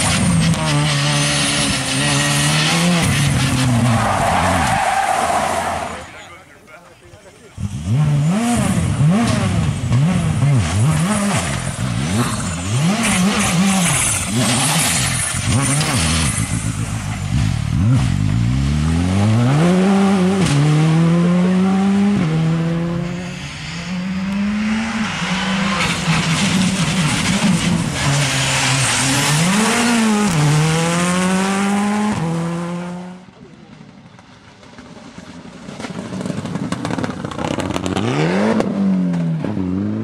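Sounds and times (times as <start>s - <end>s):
rally car engine revving: 0.0s - 6.2s, 7.5s - 40.0s.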